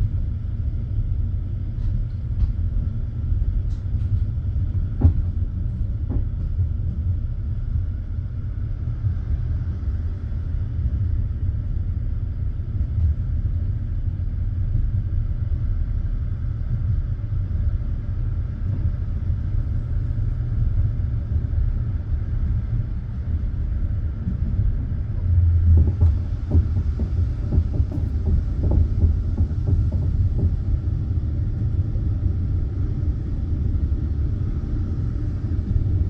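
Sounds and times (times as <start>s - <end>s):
train rumbling on track: 0.0s - 36.0s.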